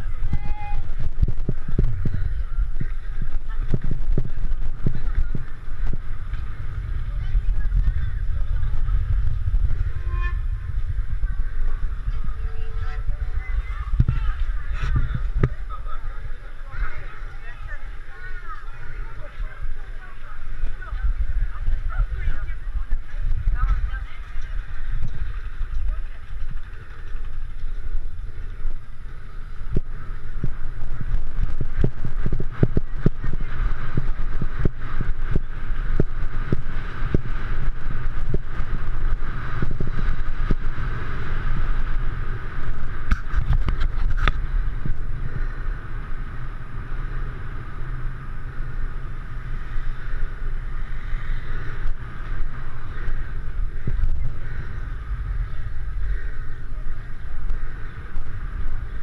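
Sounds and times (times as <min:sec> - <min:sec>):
skate wheels rolling on asphalt: 0:00.0 - 0:59.0.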